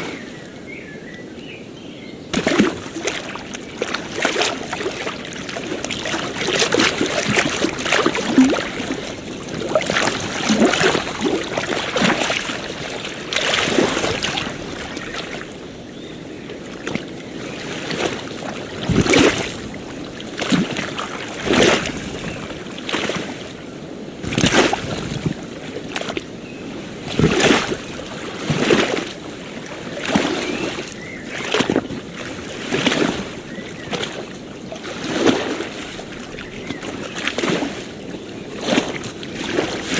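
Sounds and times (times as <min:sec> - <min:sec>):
small waves lapping on shore: 0:02.3 - 0:39.9
steady wash of water: 0:02.3 - 0:39.9.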